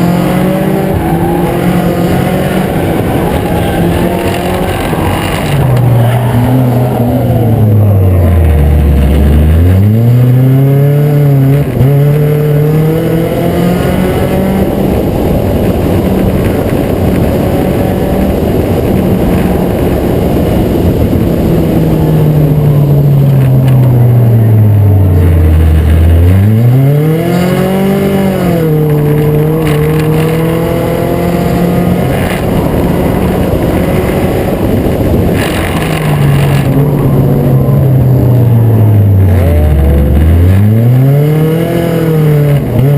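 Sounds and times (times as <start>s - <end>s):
race car engine running hard: 0.0s - 42.9s.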